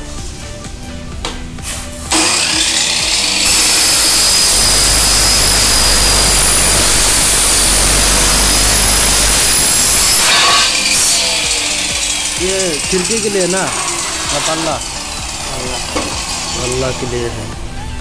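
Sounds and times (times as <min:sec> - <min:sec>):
miter saw cutting metal: 0:02.0 - 0:18.0.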